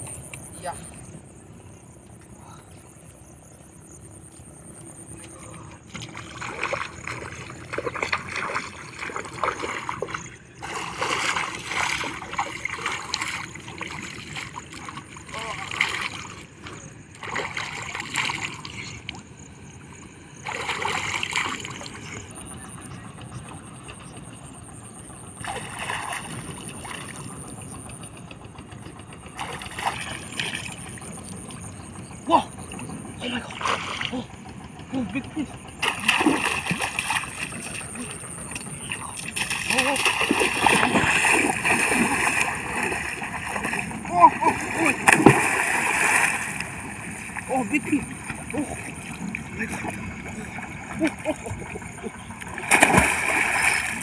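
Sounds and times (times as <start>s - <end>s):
shallow water splashing: 5.2s - 22.6s, 25.3s - 31.9s, 32.6s - 34.9s, 35.6s - 54.0s.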